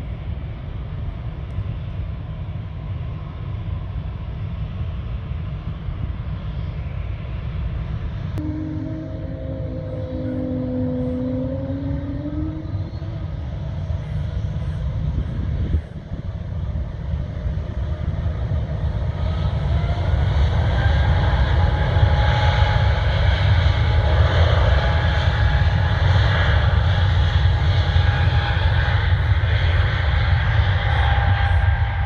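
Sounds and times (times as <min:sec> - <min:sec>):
distant jet engine whine: 0:00.0 - 0:32.0
low rumble: 0:00.0 - 0:32.0.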